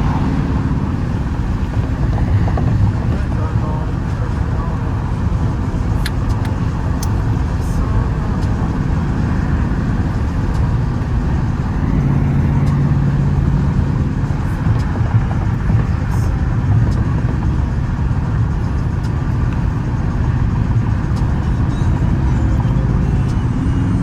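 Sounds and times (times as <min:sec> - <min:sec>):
car exhaust rumbling: 0:00.0 - 0:24.0.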